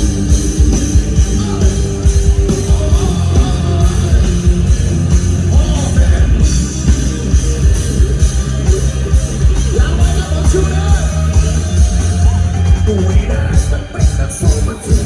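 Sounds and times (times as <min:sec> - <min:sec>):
drum and bass beat: 0:00.0 - 0:15.0
electric guitar: 0:00.0 - 0:15.0
live rock band playing: 0:00.0 - 0:15.0.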